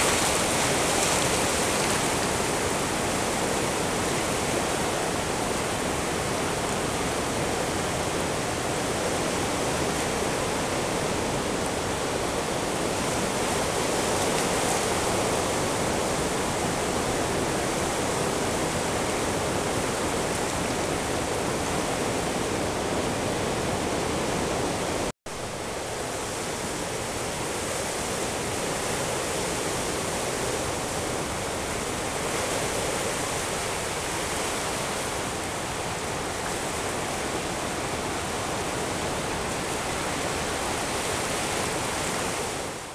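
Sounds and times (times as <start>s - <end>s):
surf rushing on rocky shore: 0.0s - 42.9s.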